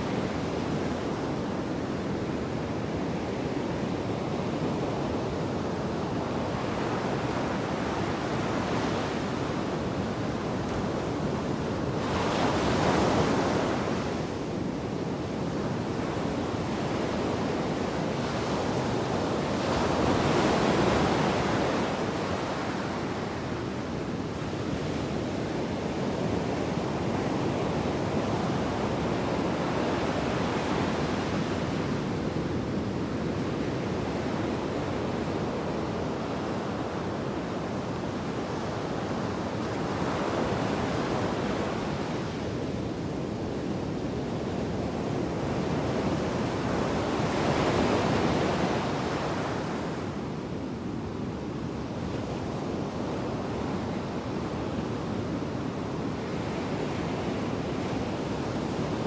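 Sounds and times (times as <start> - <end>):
heavy waves breaking on beach: 0.0 - 59.0.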